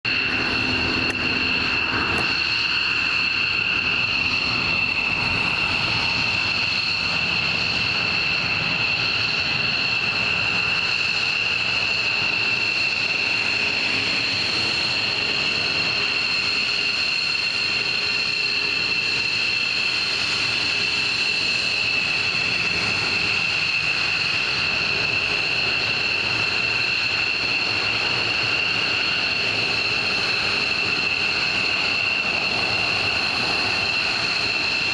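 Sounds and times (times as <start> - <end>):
jet engine rushing noise: 0.0 - 34.9
jet engines whining: 0.0 - 34.9.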